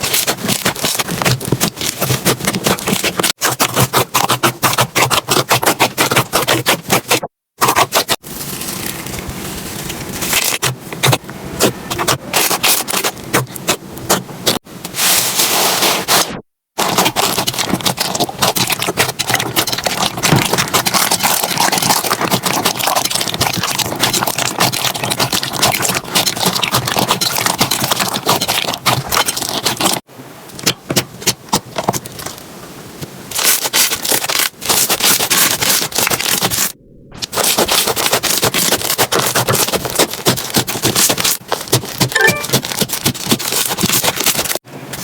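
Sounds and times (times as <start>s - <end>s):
slime crackling and scraping: 0.0s - 32.5s, 33.3s - 45.0s.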